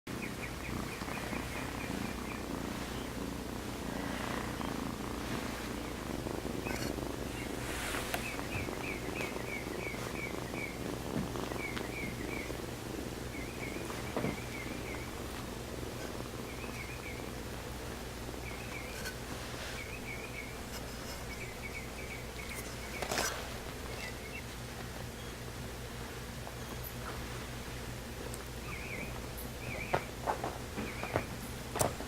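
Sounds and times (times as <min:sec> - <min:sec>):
kittens purring: 0:00.1 - 0:32.0.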